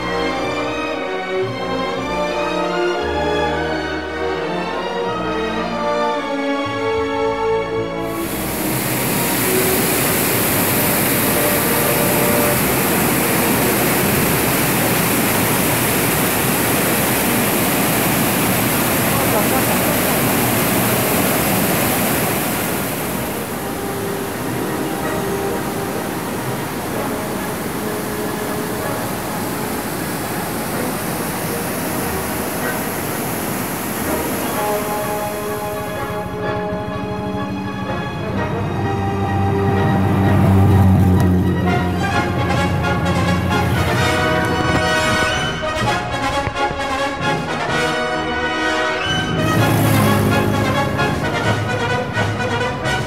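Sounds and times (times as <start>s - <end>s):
waterfall rushing: 8.0s - 52.8s.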